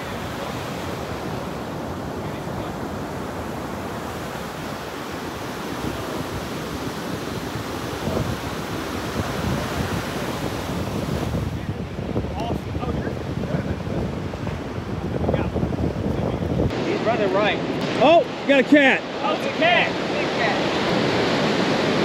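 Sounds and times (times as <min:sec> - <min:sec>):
surf breaking on sand: 0:00.0 - 0:22.0
wind buffeting microphone: 0:00.0 - 0:22.0.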